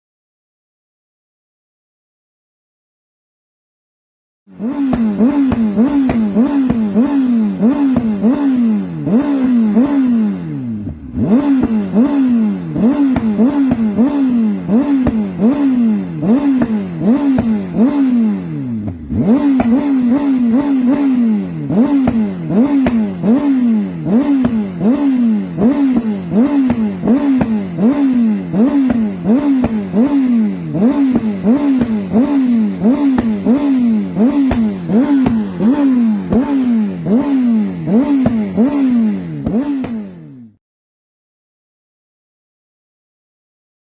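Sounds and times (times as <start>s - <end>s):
motorcycle engine revving: 4.5s - 40.6s.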